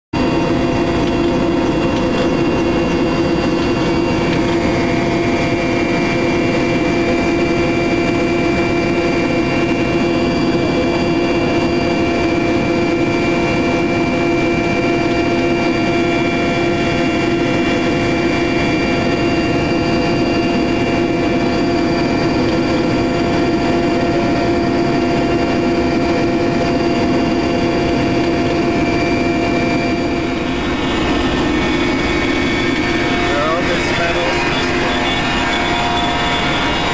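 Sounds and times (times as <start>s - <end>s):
helicopter engine drone: 0.2s - 36.9s
high turbine whine: 0.2s - 36.9s.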